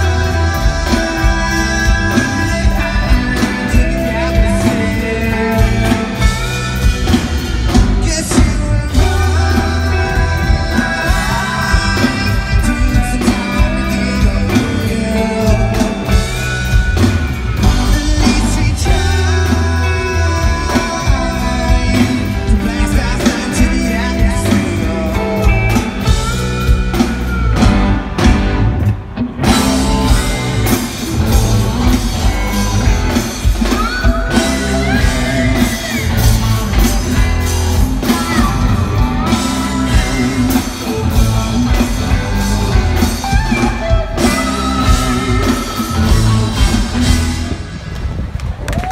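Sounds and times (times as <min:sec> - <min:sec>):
person singing: 0:00.0 - 0:16.5, 0:17.6 - 0:26.8, 0:29.4 - 0:47.5
bass guitar: 0:00.0 - 0:48.9
drum kit: 0:00.0 - 0:48.9
electric guitars: 0:00.0 - 0:48.9.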